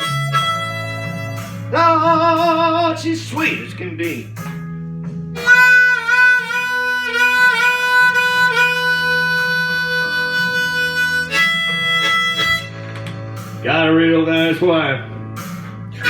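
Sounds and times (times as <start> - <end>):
acoustic guitar: 0.0 - 16.0
blues harmonica playing: 0.0 - 16.0.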